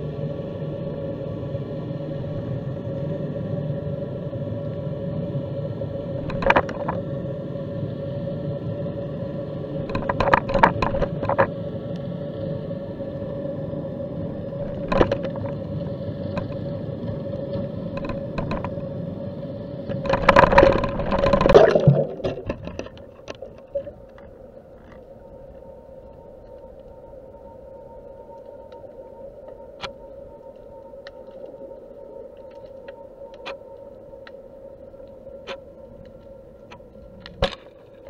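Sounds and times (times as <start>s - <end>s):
steady hum: 0.0s - 38.0s
underwater water noise: 0.0s - 38.0s.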